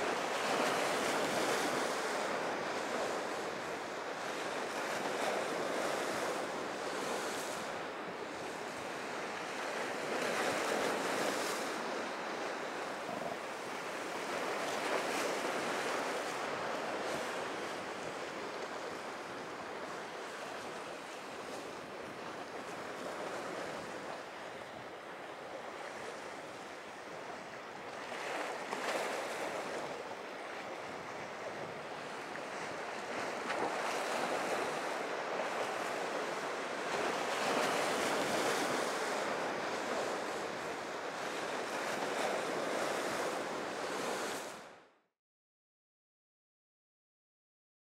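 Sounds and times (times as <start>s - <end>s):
rough sea surf washing: 0.0s - 44.8s.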